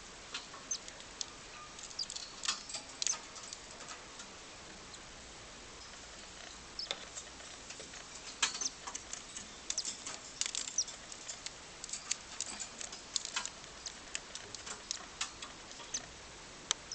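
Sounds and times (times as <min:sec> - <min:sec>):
cockatiel chick peeping: 0:00.3 - 0:04.0, 0:05.8 - 0:16.2.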